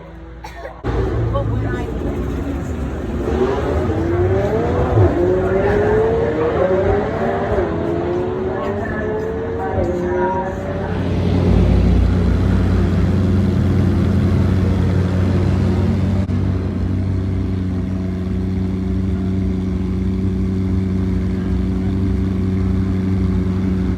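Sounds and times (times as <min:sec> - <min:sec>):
car engine running: 0:00.8 - 0:23.9.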